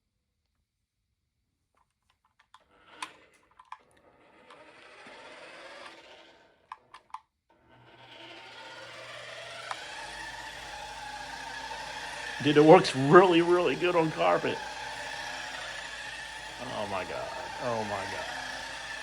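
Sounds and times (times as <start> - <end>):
toy car motor whirring: 2.5 - 19.0.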